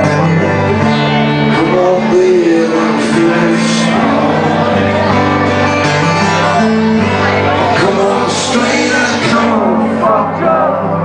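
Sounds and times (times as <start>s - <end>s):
acoustic guitar band music: 0.0s - 11.0s.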